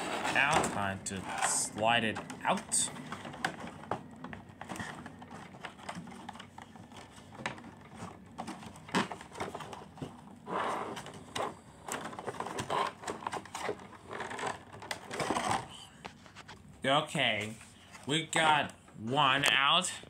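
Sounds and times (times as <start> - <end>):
plastic toy packaging handled: 0.0 - 16.6.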